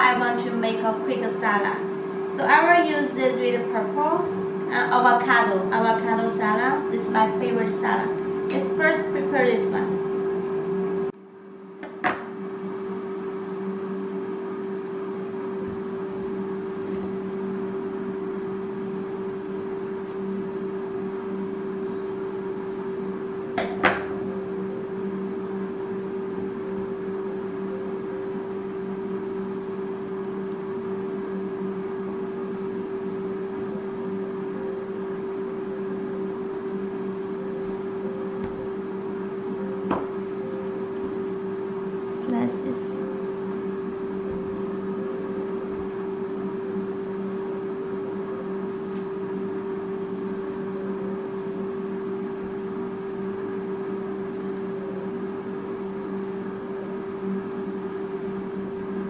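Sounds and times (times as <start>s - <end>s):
air fryer humming: 0.0s - 59.0s.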